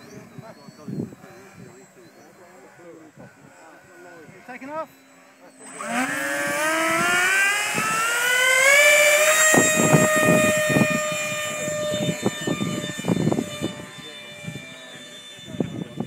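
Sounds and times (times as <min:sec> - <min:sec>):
model jet motors whining: 0:00.0 - 0:16.0.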